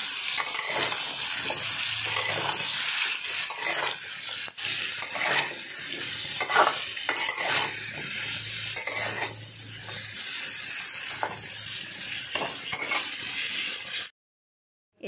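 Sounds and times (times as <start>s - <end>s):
metal spatula scraping a pan: 0.0s - 14.1s
vegetables sizzling in oil: 0.0s - 14.1s.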